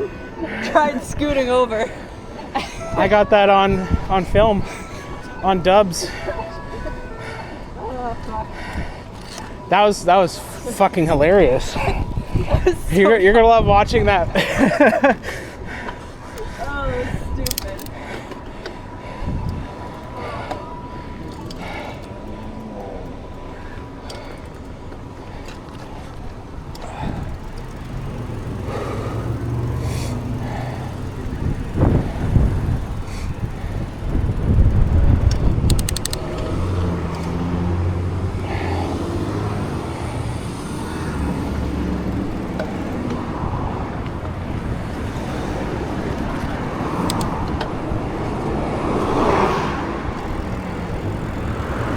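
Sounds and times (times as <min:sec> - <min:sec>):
vehicle engines passing: 0:00.0 - 0:51.9.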